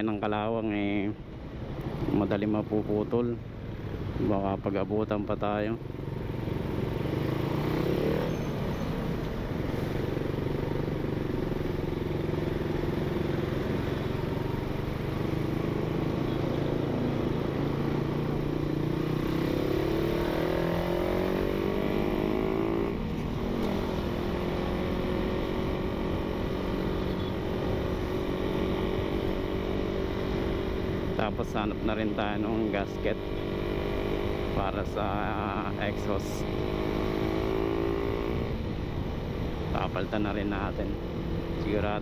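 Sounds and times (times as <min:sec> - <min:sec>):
motorcycle engine: 0:05.7 - 0:42.0.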